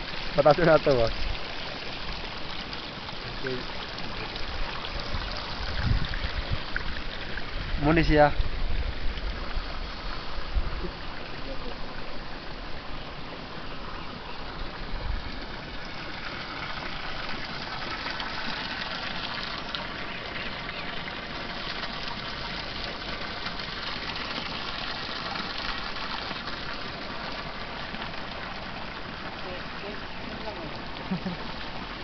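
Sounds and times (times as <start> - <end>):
steam and boiling water hissing: 0.0 - 32.0.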